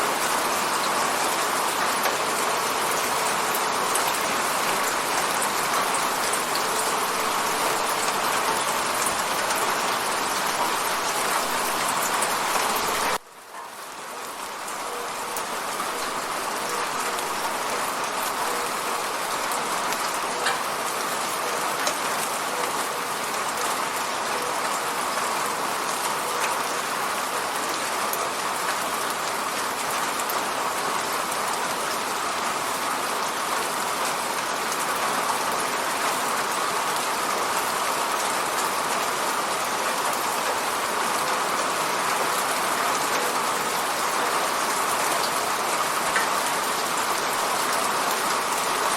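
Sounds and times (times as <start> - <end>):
rain pattering on a window: 0.0 - 48.9.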